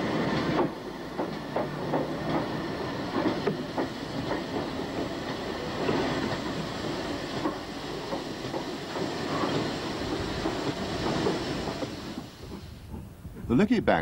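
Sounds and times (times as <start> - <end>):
steam train rushing and hissing: 0.0 - 13.6
train knocks and clatter: 0.0 - 13.6.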